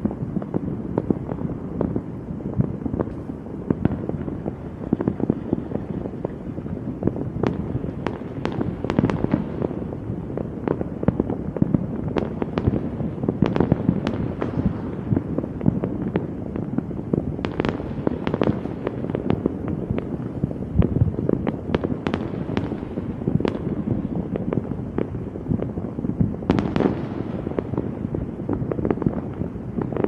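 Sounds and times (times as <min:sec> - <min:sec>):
fireworks cracking and popping: 0:00.0 - 0:30.0
rumble of fireworks bangs: 0:00.0 - 0:30.0.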